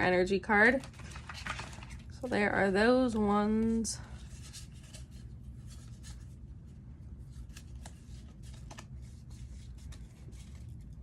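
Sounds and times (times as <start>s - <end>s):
faint low hum: 0.0s - 11.0s
cards rustling: 0.6s - 2.3s, 3.0s - 11.0s.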